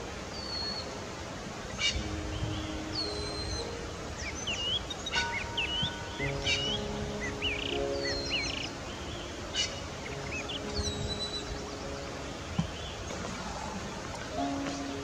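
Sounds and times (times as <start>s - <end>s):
background music of held notes: 0.0s - 15.0s
steady outdoor hiss: 0.0s - 15.0s
small birds chirping: 0.2s - 1.0s, 1.6s - 15.0s.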